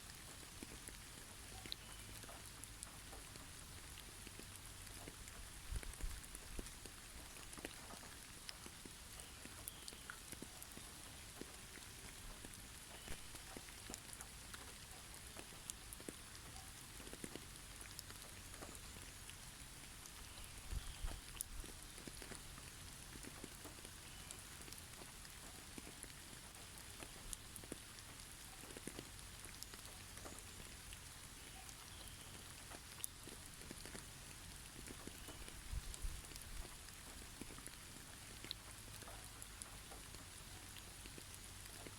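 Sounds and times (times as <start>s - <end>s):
faint steady hiss: 0.0s - 41.9s.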